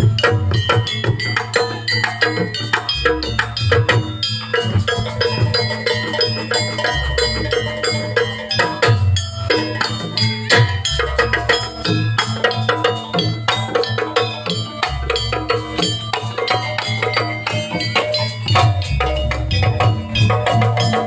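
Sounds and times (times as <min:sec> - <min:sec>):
drum strokes: 0:00.0 - 0:21.0
ringing pitched metal tones: 0:00.0 - 0:21.0.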